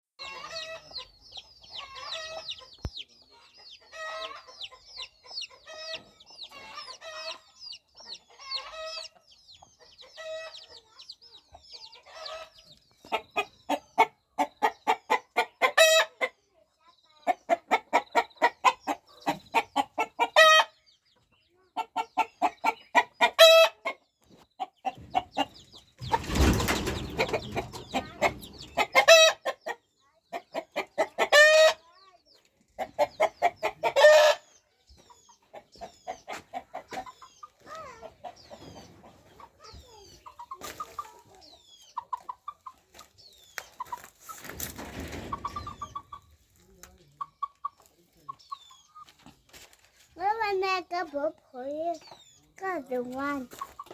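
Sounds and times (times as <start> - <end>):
chickens clucking: 0.2 - 53.9.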